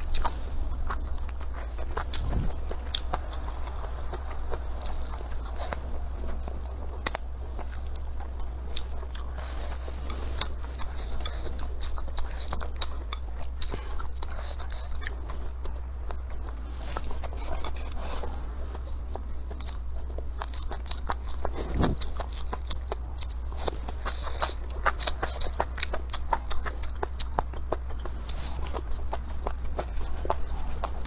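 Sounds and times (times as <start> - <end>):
lip smacks and clicks: 0.0 - 31.0
steady low hum: 0.0 - 31.0
wet chewing: 0.0 - 31.0.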